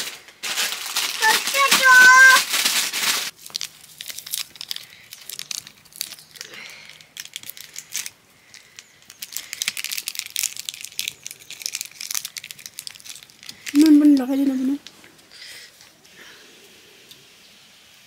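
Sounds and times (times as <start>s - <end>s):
crinkling and rustling: 0.0s - 16.0s.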